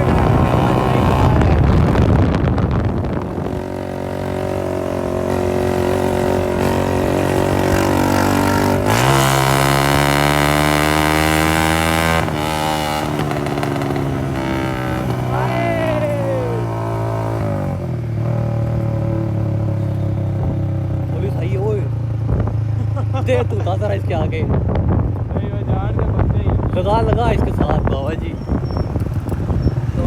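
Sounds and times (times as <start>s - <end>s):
motorcycle engine running loud: 0.0s - 30.0s.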